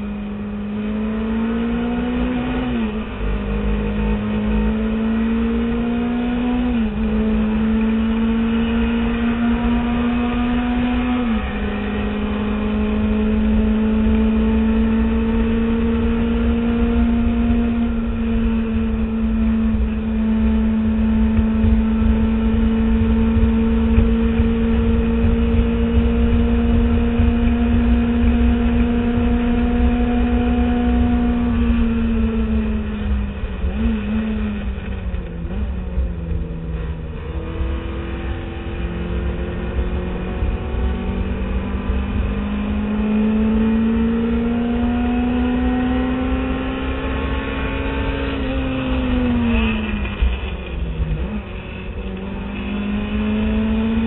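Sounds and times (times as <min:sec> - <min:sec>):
race car engine revving: 0:00.0 - 0:54.0
road and wind rumble: 0:00.0 - 0:54.0.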